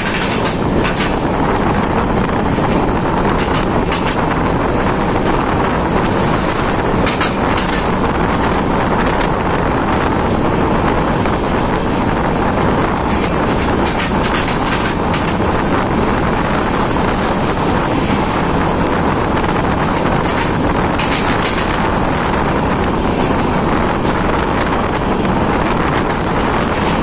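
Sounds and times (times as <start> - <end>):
train running noise: 0.0 - 27.0
wheel clicks and clatter: 0.0 - 27.0
wind buffeting microphone: 0.0 - 27.0.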